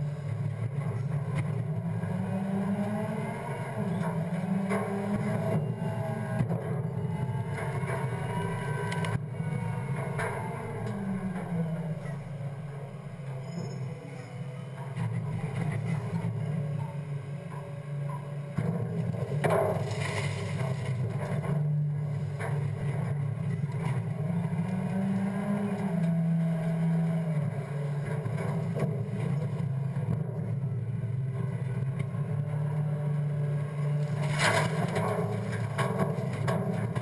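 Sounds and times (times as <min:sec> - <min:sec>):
garbage truck engine and hydraulics: 0:00.0 - 0:37.0.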